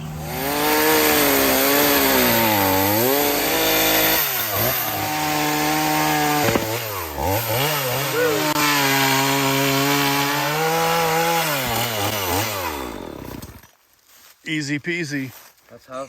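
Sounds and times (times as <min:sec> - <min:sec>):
chainsaw cutting wood: 0:00.0 - 0:13.8.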